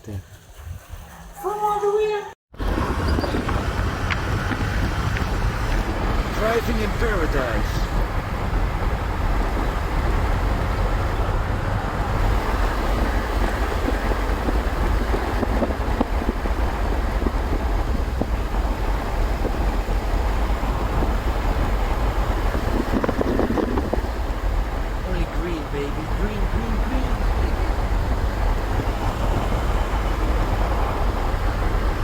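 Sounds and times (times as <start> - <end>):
car engine and tyre rumble: 2.5 - 32.0.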